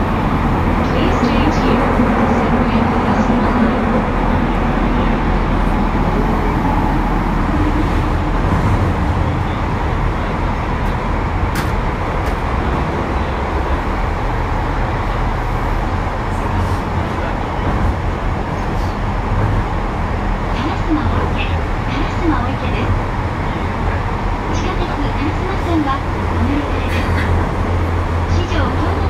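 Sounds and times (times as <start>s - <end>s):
train wheels rumbling in tunnel: 0.0s - 29.0s.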